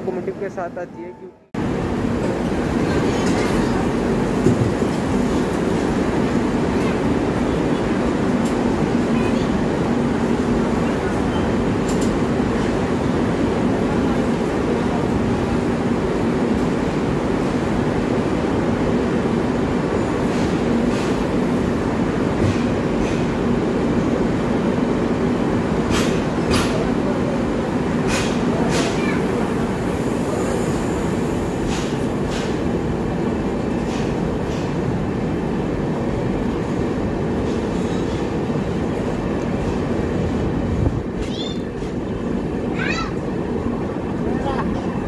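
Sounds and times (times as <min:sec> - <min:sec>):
train rumble and hum: 0:00.0 - 0:45.0.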